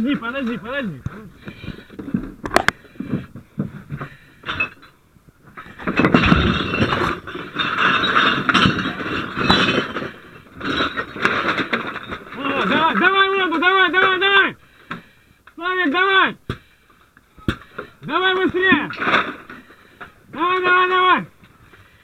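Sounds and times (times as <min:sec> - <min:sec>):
debris knocks and clinks: 0:00.3 - 0:15.1, 0:16.5 - 0:22.0.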